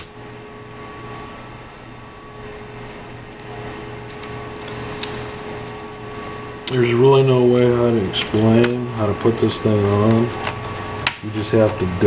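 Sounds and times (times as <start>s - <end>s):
machine hum with throb: 0.0s - 12.0s.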